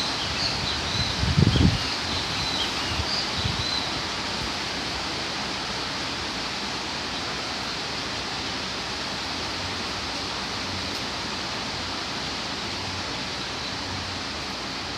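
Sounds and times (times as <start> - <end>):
torrential rain in strong wind: 0.0 - 14.9.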